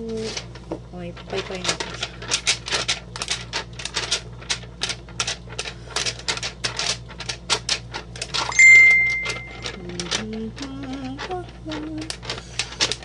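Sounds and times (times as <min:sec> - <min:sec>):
fanning flapping clicks: 0:00.0 - 0:13.0.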